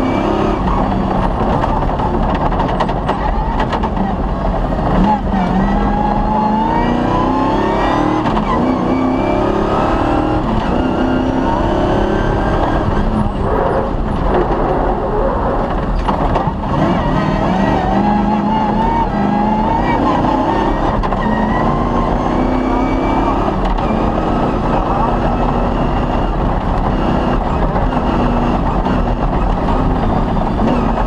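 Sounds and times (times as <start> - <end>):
rally car engine shifting gears: 0.0 - 31.0.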